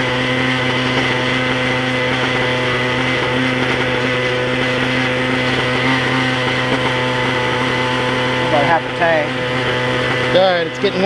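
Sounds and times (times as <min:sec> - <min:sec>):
model helicopter engine running: 0:00.0 - 0:11.0.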